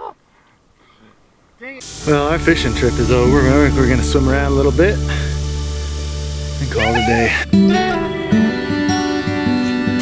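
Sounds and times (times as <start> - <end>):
instrumental background music: 1.8 - 10.0.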